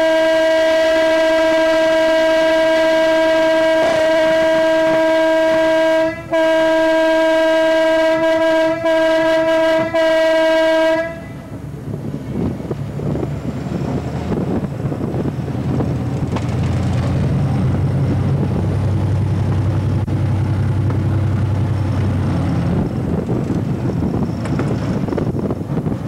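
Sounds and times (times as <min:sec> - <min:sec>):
locomotive engine hum: 0:00.0 - 0:26.0.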